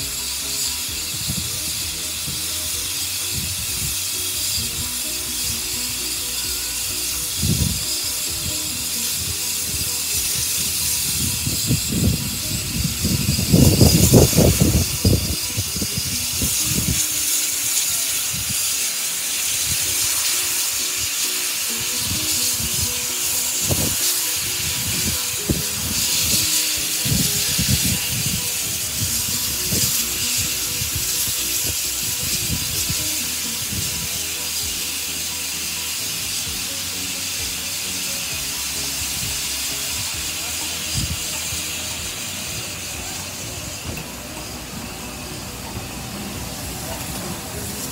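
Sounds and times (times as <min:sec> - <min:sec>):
steam hissing: 0:00.0 - 0:47.9.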